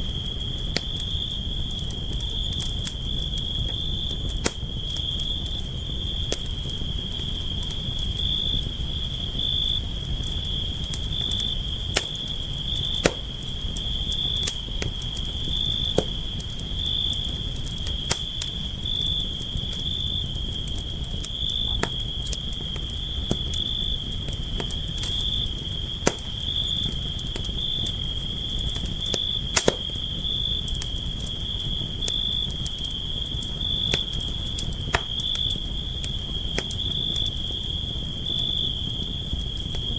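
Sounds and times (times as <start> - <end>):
campfire crackling: 0.0 - 39.9
crickets trilling: 0.0 - 39.9.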